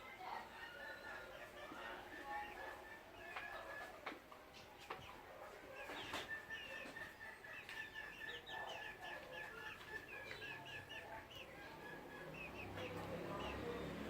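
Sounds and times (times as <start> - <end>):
chickens clucking and chirping: 0.0 - 14.0.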